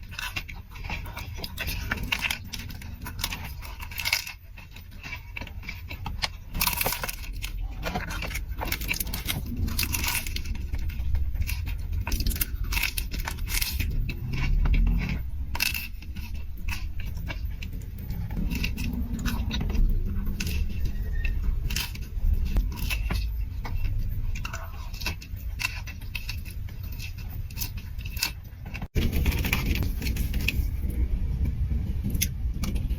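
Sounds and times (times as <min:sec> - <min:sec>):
food chewing and crunching: 0:00.0 - 0:32.9
low rumble: 0:00.0 - 0:32.9.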